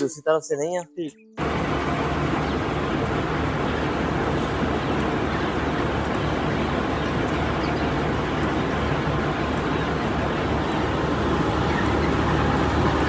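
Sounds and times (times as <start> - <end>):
ventilation fans droning: 1.4 - 13.0.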